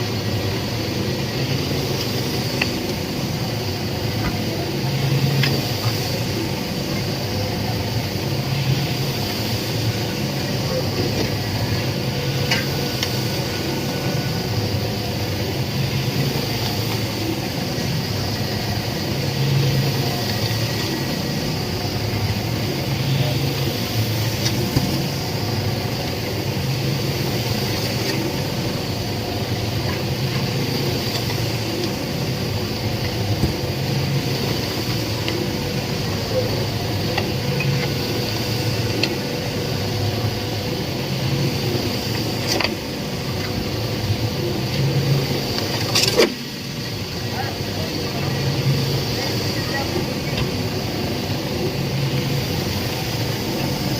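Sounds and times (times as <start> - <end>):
concrete mixer humming: 0.0 - 53.9.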